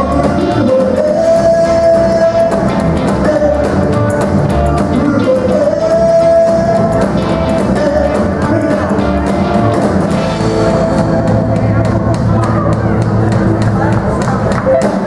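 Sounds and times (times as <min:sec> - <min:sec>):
man singing: 0:00.0 - 0:12.7
live rock and roll band: 0:00.0 - 0:15.0.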